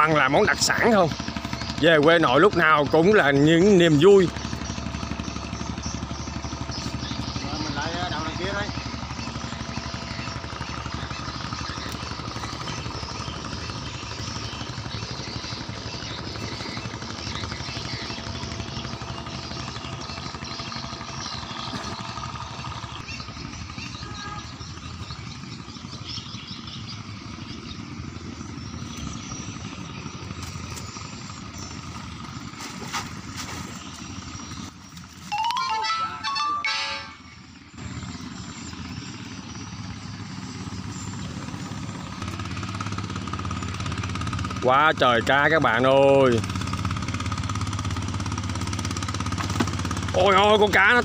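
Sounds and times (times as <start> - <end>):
small engine humming: 0.0 - 51.0.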